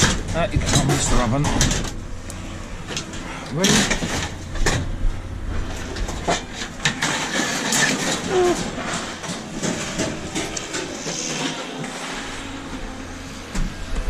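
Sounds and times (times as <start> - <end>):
scrap metal clanking and scraping: 0.0 - 14.0.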